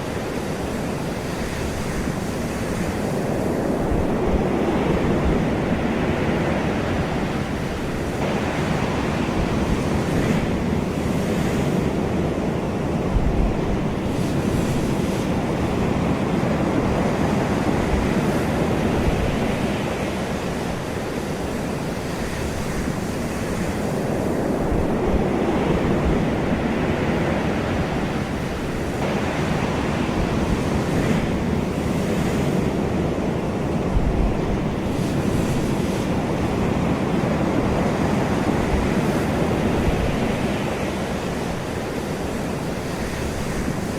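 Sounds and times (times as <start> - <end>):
ocean waves breaking: 0.0 - 43.9
wind noise on microphone: 0.0 - 43.9.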